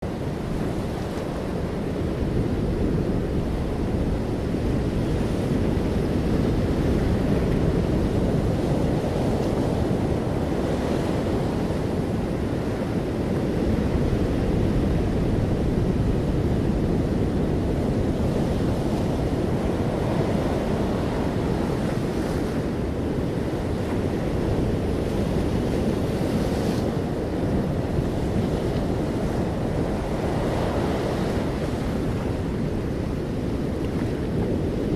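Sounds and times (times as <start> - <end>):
low rumble of waves: 0.0 - 34.9.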